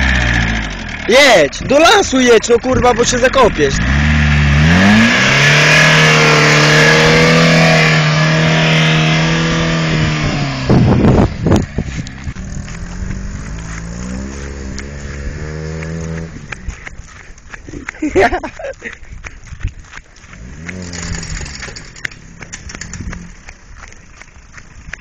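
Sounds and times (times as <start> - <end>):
car engine revving: 0.0 - 16.8, 20.3 - 25.0
wheels spinning on wet grass: 0.0 - 25.0.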